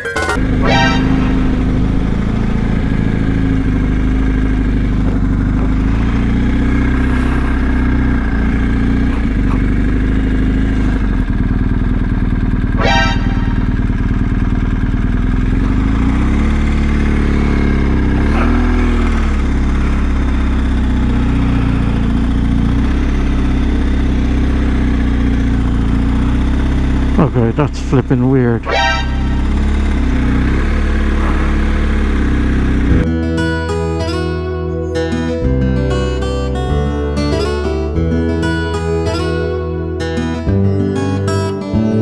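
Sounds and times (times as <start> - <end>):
motorcycle engine running: 0.0 - 34.2.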